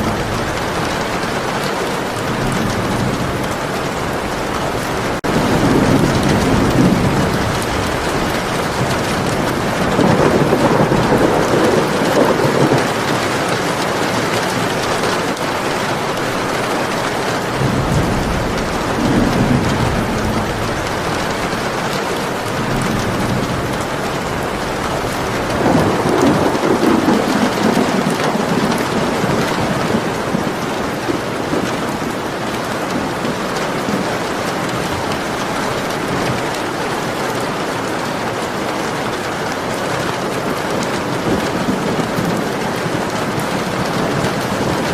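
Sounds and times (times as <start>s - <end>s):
steady rain falling: 0.0s - 44.9s
thunder rumbling: 0.0s - 44.9s.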